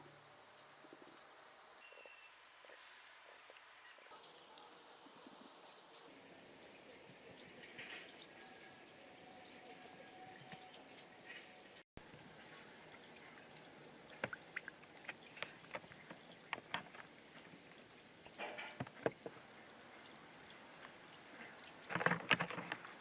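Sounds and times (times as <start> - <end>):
small sharp drips: 0.0 - 23.0
water trickling through plastic toy: 0.0 - 23.0.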